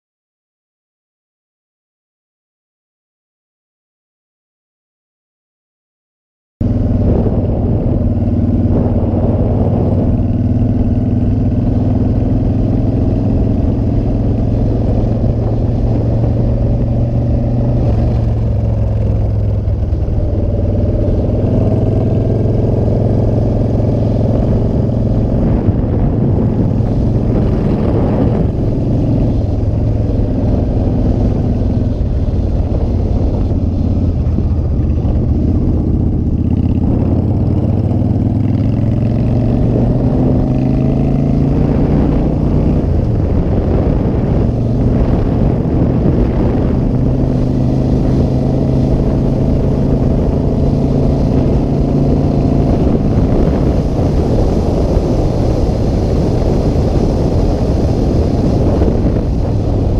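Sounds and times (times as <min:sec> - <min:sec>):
motorcycle engine cruising: 0:06.6 - 0:59.9.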